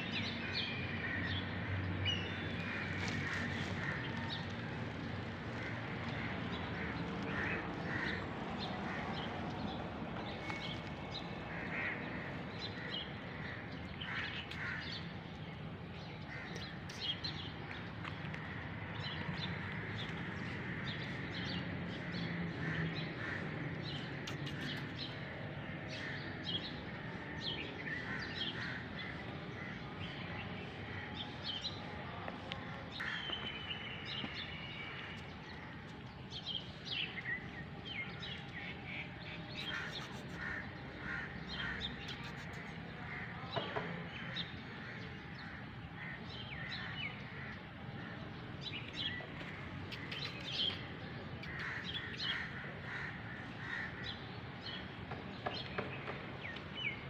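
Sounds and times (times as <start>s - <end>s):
birds chirping: 0.2s - 57.0s.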